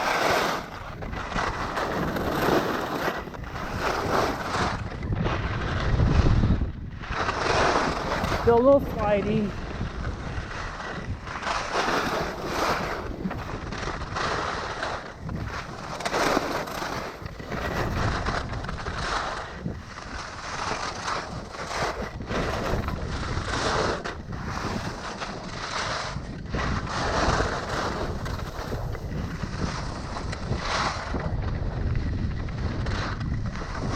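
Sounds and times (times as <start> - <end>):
skis scraping on icy snow: 0.0 - 33.9
wind on microphone: 0.0 - 33.9.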